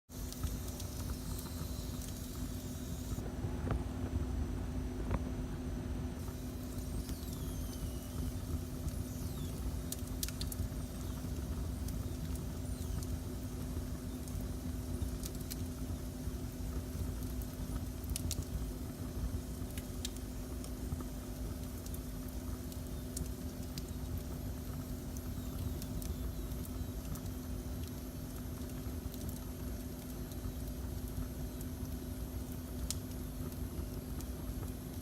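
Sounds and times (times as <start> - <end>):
crackles and pops of burning wood: 0.1 - 4.2, 6.2 - 35.0
faint steady hum: 0.1 - 35.0
wood fire rumbling: 0.2 - 35.0.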